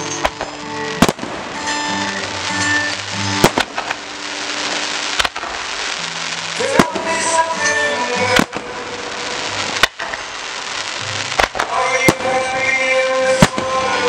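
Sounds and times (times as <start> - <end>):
firework shells bursting: 0.0 - 14.0
music playing: 0.0 - 14.0.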